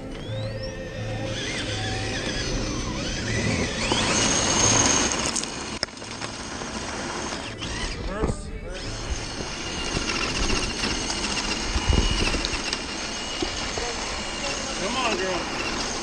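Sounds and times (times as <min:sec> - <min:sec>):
electric motor whining: 0:00.0 - 0:16.0
tires scrabbling on loose rock: 0:00.2 - 0:16.0.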